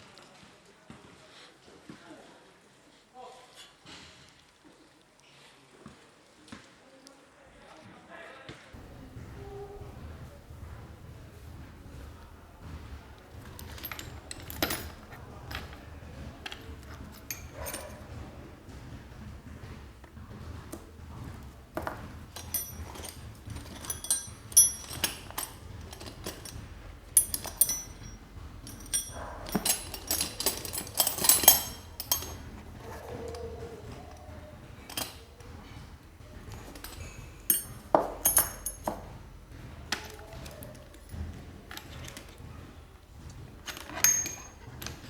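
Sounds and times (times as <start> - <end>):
low steady hum: 8.8 - 45.0
metal hand tools clinking: 8.8 - 45.0.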